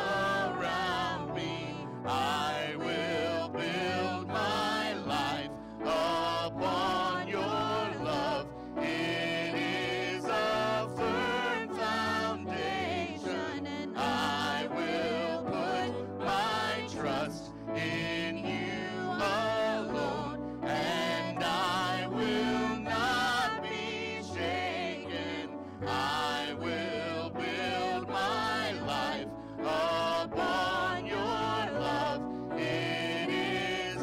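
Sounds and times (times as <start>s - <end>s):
women singing into microphones: 0.0s - 5.4s, 6.0s - 34.0s.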